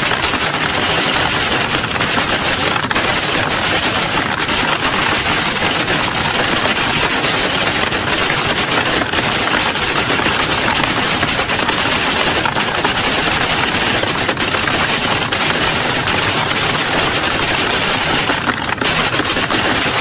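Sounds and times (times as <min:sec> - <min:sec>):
many keyboards clattering: 0:00.0 - 0:20.0.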